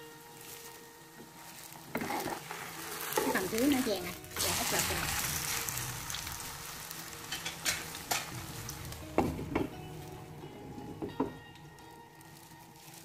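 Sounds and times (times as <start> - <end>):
utensil scraping a pan: 0.0 - 11.4
batter sizzling in oil: 0.0 - 13.0.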